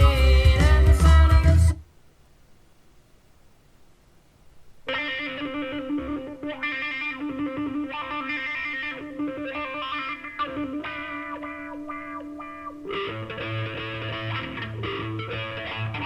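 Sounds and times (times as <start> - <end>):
guitar-led song over a speaker: 0.0 - 1.8, 4.9 - 16.0.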